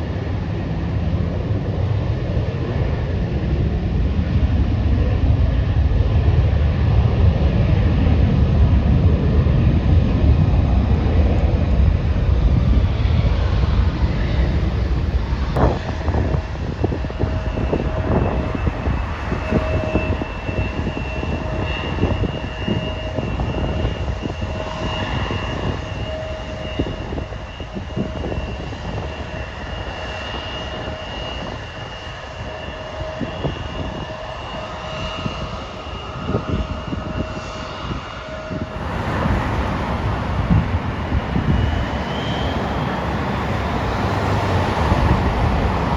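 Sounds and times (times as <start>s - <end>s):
jet engine high whine: 0.0s - 45.9s
jet engine low rumble: 0.0s - 45.9s.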